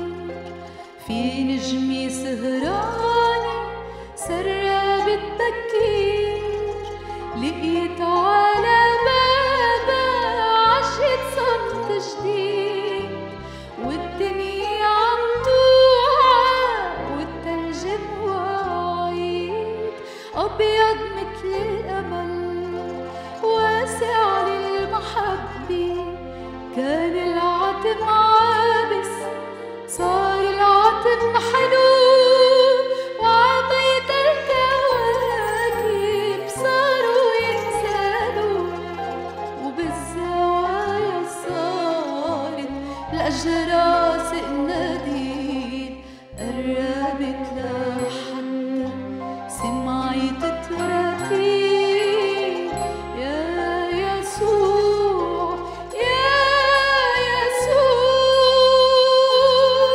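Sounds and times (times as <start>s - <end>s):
woman singing into microphone: 0.0s - 0.4s, 1.0s - 29.3s, 29.9s - 38.9s, 39.6s - 59.9s
instrumental accompaniment with low bass: 0.0s - 59.9s.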